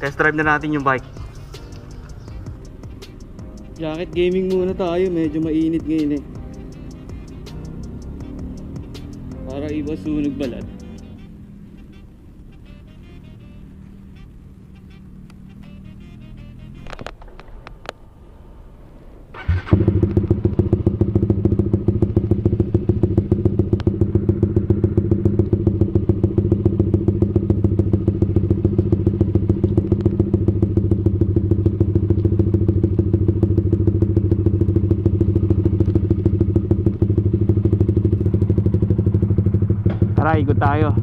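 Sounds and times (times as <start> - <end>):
motorcycle engine starting and idling: 0.0 - 18.0, 19.2 - 41.0.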